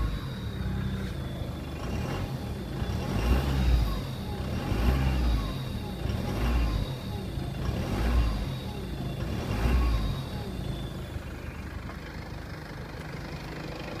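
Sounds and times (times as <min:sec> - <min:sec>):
turbo whine: 0:00.0 - 0:11.8
diesel engine revving: 0:00.0 - 0:14.0.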